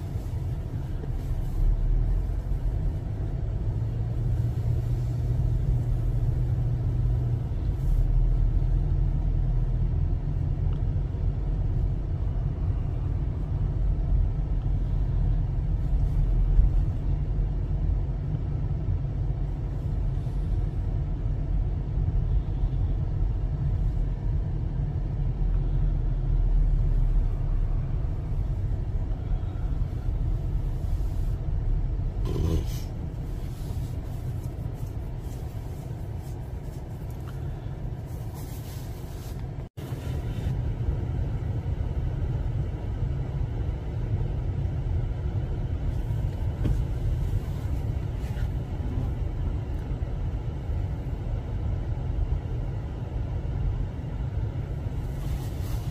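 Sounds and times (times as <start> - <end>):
car interior rumble: 0.0 - 55.9.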